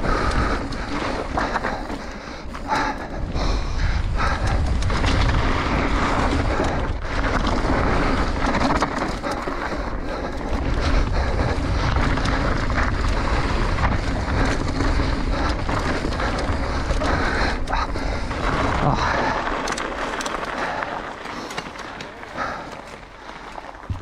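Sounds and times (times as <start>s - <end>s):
wind buffeting microphone: 0.0s - 21.2s
bike rattling over bumps: 0.0s - 24.0s
bike tyres on dirt: 0.0s - 24.0s.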